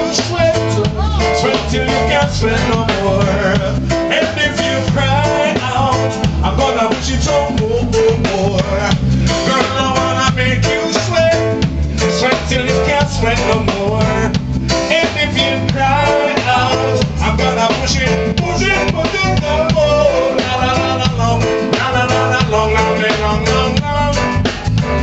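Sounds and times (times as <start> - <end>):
bass guitar: 0.0 - 25.0
drum kit: 0.0 - 25.0
keyboard: 0.0 - 25.0
man singing: 0.0 - 25.0.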